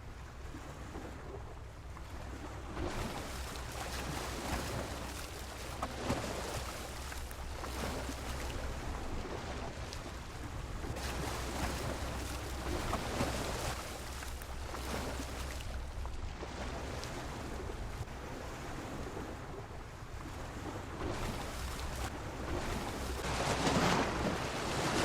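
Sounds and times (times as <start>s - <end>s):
sea waves washing against pier: 2.2s - 25.0s.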